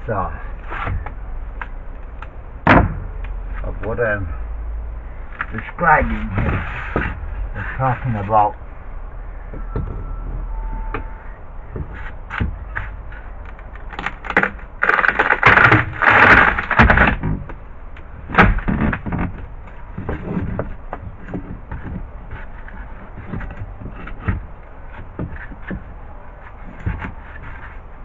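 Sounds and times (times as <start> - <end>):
wood scraping and splitting: 0.0 - 4.3, 5.0 - 28.0.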